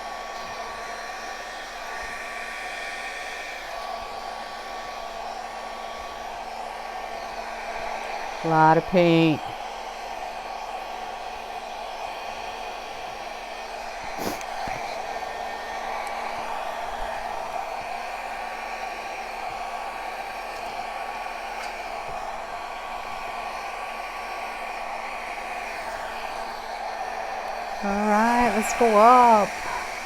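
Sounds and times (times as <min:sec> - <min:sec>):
blow dryer running: 0:00.0 - 0:30.0.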